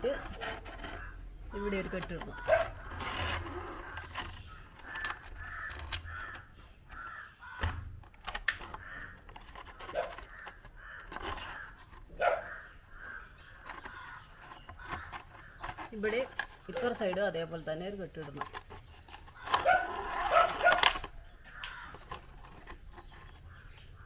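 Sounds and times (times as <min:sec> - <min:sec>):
bird calling: 0:00.0 - 0:24.0.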